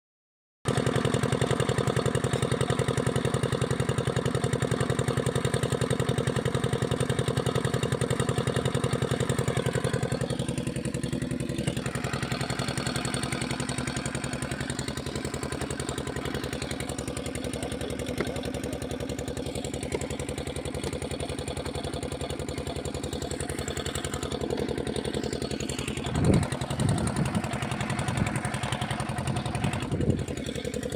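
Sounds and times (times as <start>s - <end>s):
small engine running: 0.7s - 30.9s.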